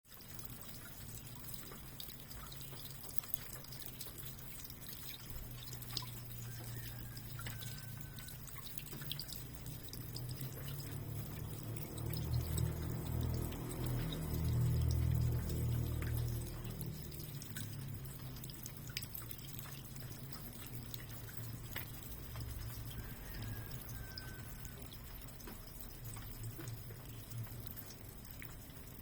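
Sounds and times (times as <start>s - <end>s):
water dripping and trickling: 0.0s - 29.0s.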